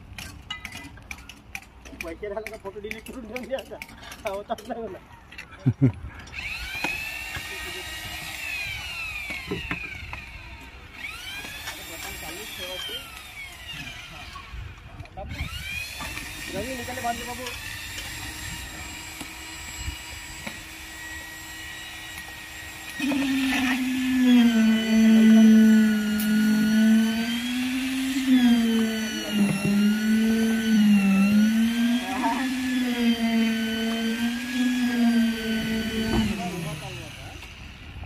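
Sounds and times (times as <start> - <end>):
concrete vibrator droning: 6.3 - 38.0.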